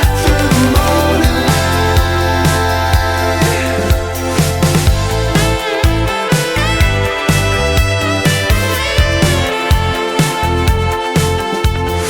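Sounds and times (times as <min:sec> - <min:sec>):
background music with guitar: 0:00.0 - 0:12.0.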